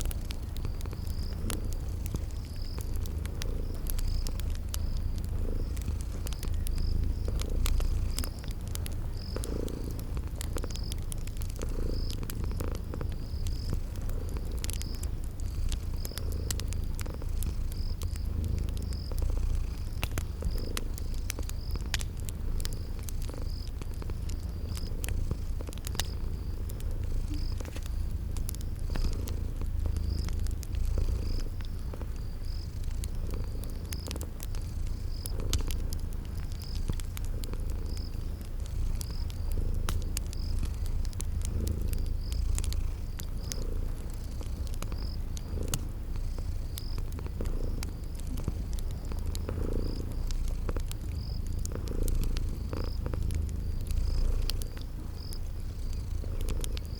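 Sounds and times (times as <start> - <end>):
cat purring: 0.0 - 56.9
crickets chirping: 0.0 - 56.9
wood fire crackling: 0.0 - 56.9.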